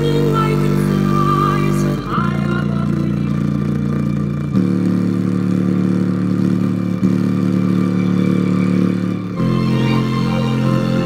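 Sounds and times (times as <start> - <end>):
buzzy bass line from speaker: 0.0 - 11.0.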